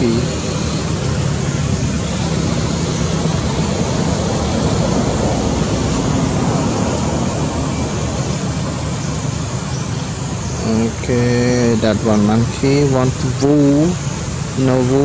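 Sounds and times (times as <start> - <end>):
rushing noise with low rumble: 0.0 - 15.0.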